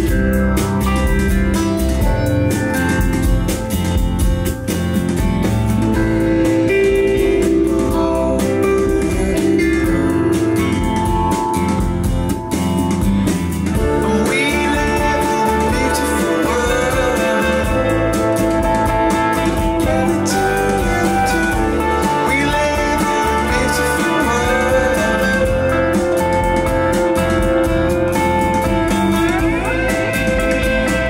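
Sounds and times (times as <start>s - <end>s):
guitar-led song: 0.0s - 31.0s.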